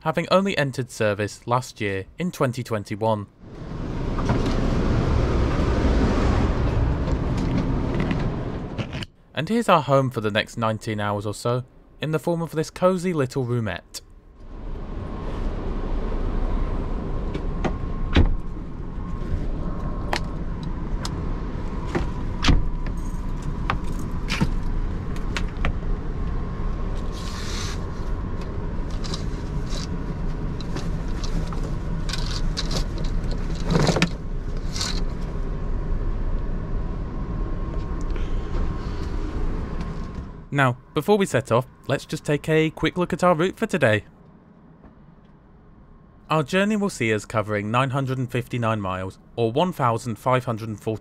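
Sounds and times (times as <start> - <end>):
low hum and rumble: 3.2 - 12.1, 12.7 - 46.5.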